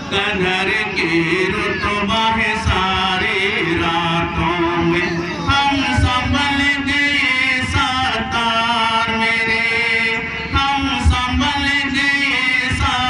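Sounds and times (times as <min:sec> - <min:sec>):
man singing a chant-like song: 0:00.0 - 0:13.0.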